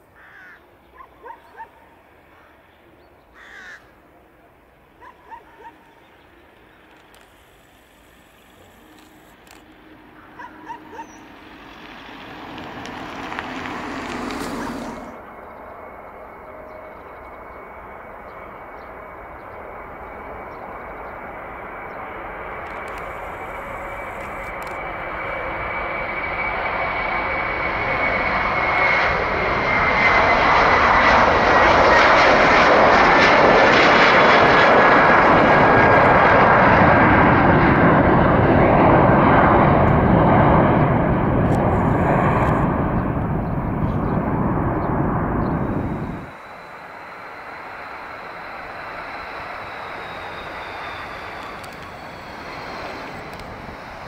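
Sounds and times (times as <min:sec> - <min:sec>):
jet engines at takeoff power: 0:00.0 - 0:54.0.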